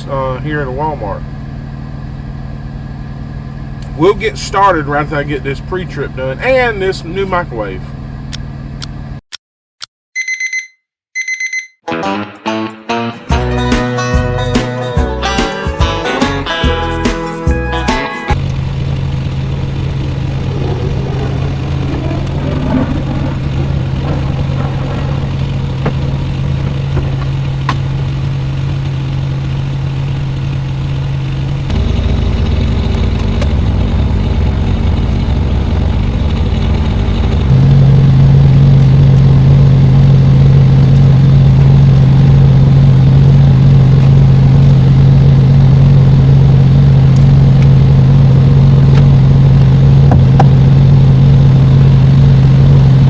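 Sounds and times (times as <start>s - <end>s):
truck diesel engine idling: 0.0s - 7.9s, 18.4s - 53.0s.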